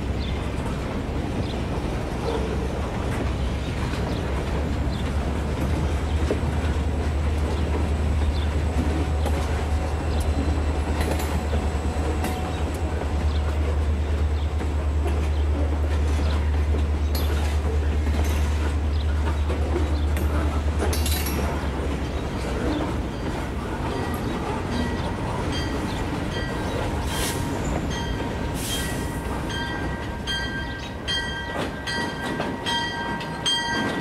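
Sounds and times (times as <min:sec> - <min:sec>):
wheels clicking over rail joints: 0:00.2 - 0:34.0.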